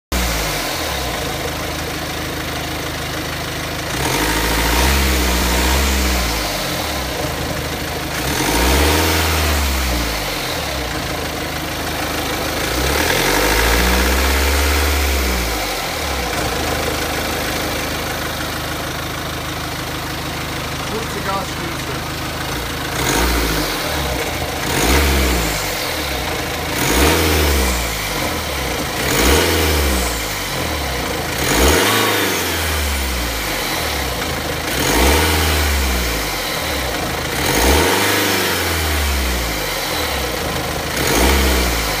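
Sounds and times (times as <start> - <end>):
car engine revving: 0.1 - 42.0.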